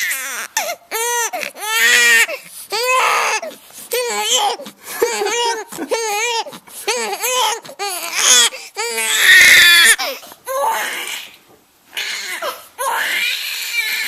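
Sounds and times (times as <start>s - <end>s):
newborn baby crying: 0.0s - 14.0s.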